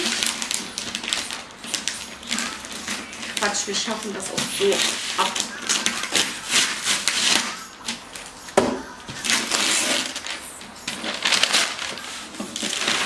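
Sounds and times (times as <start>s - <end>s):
paper rustling: 0.0s - 13.0s
wrapping paper tearing: 0.0s - 13.0s.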